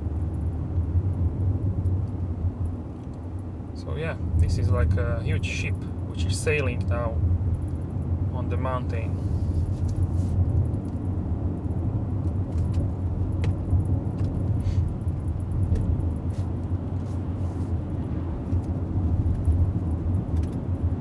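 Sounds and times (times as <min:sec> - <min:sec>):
road and engine rumble inside car: 0:00.0 - 0:21.0.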